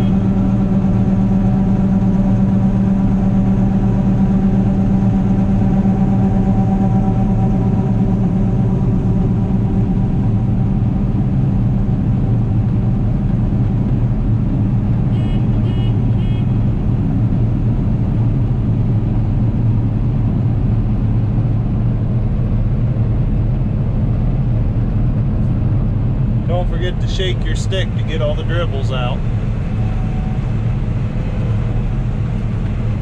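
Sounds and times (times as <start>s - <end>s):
combine harvester engine drone: 0.0s - 33.0s.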